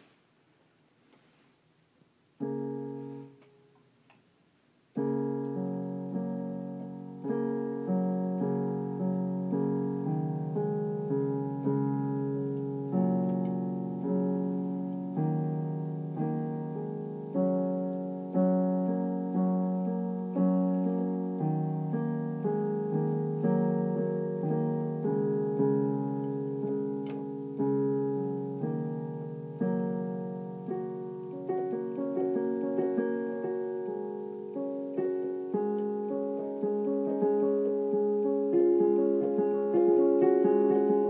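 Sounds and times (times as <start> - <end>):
digital piano chords: 2.4 - 3.8, 4.9 - 41.0.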